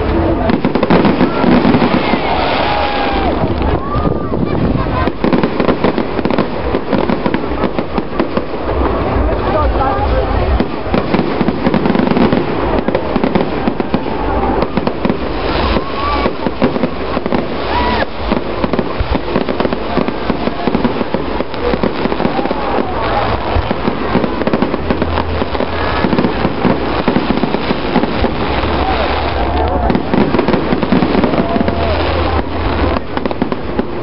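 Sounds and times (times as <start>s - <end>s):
faint voices: 0.0s - 34.0s
fireworks bangs and crackles: 0.0s - 34.0s.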